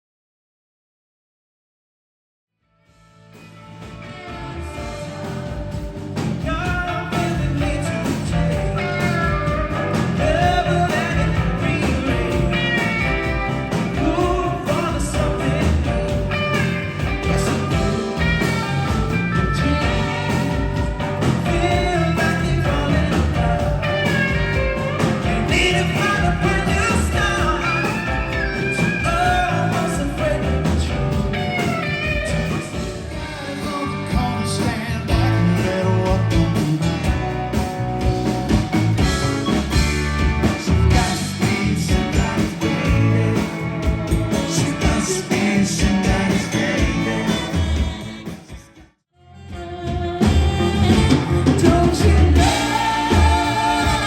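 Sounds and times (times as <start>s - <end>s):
soft rock song with vocals: 3.4s - 48.8s, 49.5s - 54.0s.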